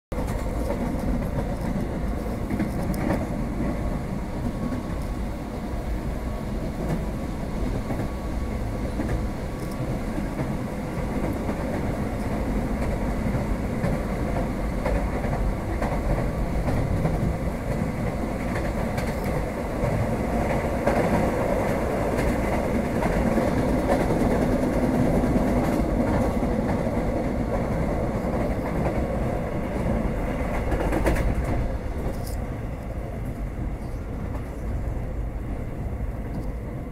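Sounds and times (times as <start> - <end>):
train wheels rumbling on rails: 0.1 - 36.9.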